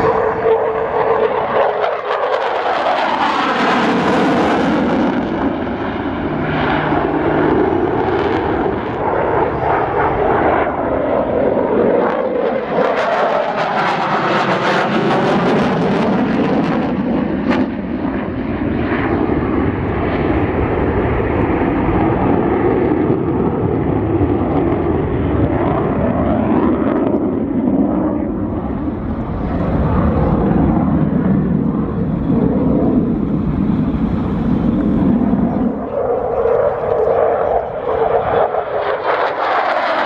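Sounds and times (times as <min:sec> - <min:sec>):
jet engine roaring: 0:00.0 - 0:40.0.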